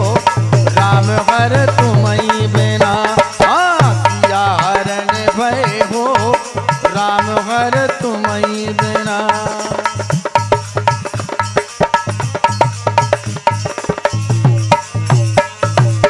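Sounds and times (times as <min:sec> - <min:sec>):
hand drums: 0:00.0 - 0:16.0
man singing with ornaments: 0:00.0 - 0:16.0.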